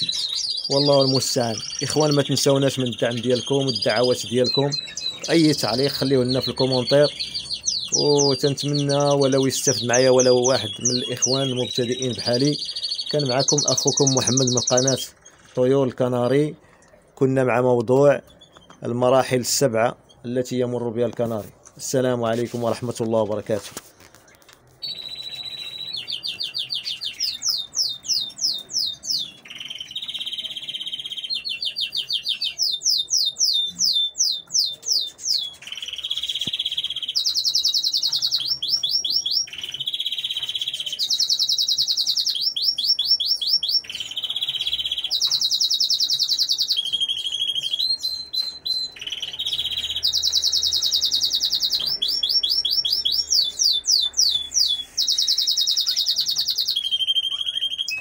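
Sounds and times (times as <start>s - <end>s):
canary singing: 0.0s - 23.5s, 24.2s - 58.0s.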